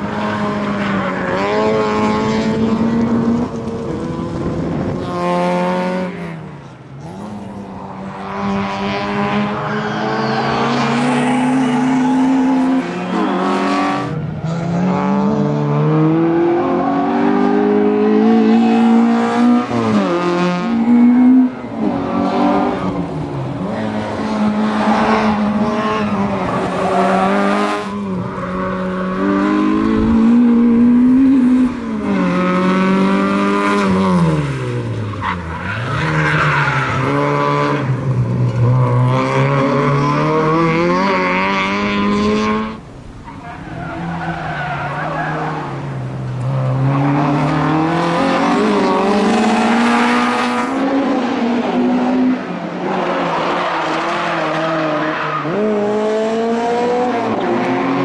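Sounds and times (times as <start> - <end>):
rally car engine revving: 0.0 - 42.8, 43.4 - 58.0.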